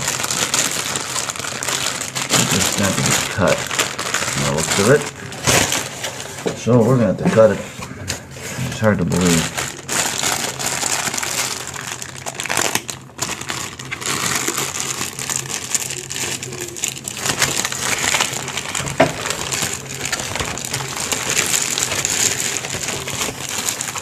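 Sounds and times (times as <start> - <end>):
plastic and paper crinkling: 0.0 - 24.0.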